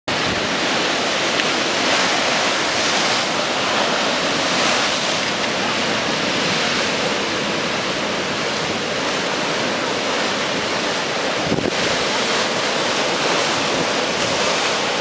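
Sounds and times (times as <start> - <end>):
waves breaking against a seawall: 0.1 - 15.0.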